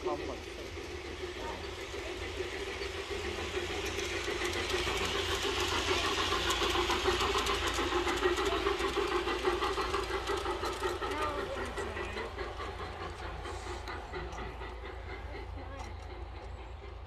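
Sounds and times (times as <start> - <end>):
model train hum: 0.0 - 17.0
wheels clicking over rail joints: 0.0 - 17.0.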